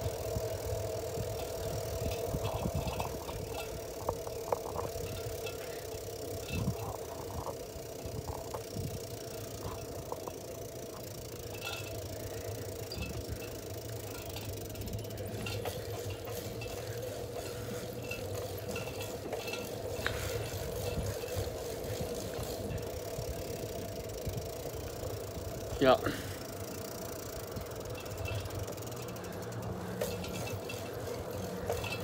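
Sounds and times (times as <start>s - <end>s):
bicycle tyres rolling on asphalt: 0.0s - 32.0s.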